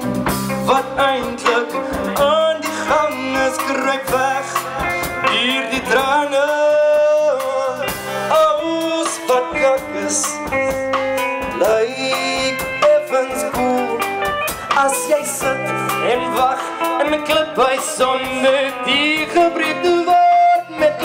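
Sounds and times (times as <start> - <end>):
song with guitar and drums: 0.0 - 21.0.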